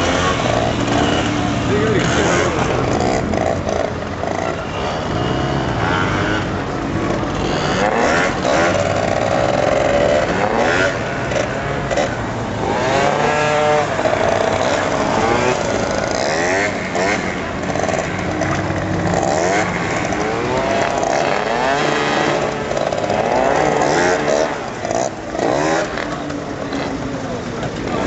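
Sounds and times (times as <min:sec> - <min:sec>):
scooter engines revving: 0:00.0 - 0:28.0.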